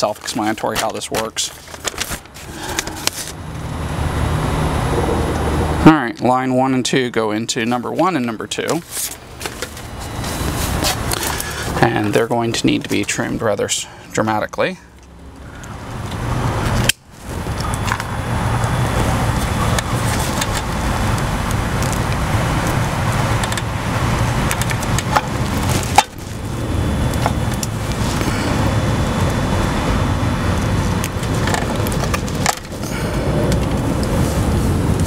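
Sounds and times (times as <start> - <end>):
steady low rumble: 1.5 - 35.0.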